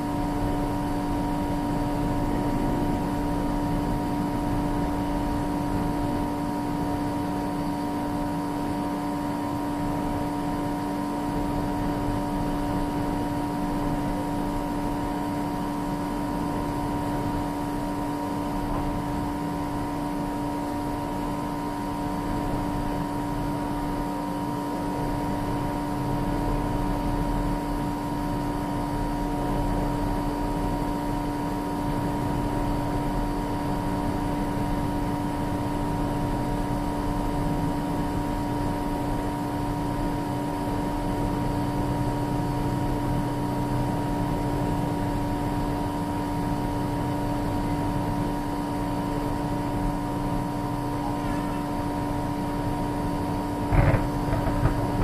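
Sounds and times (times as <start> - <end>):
steady mechanical drone: 0.0 - 55.0.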